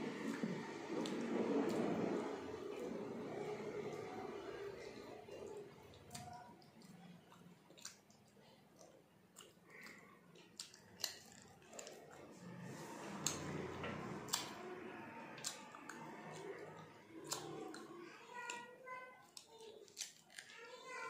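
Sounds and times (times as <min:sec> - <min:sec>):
chewing and wet mouth noises: 0:00.1 - 0:21.0.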